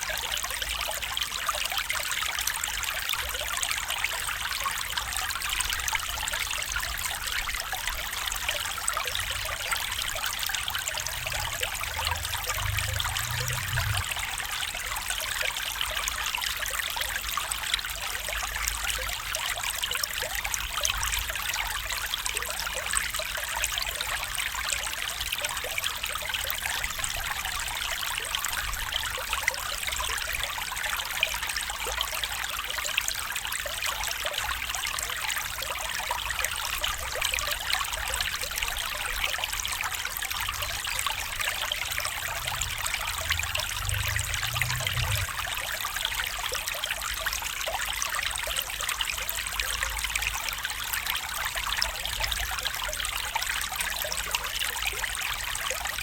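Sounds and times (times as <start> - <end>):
small stream trickling: 0.0 - 56.0.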